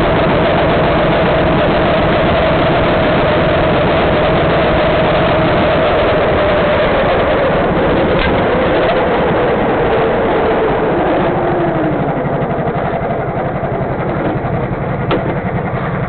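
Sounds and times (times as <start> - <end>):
go-kart engine slowing down: 0.0 - 16.0.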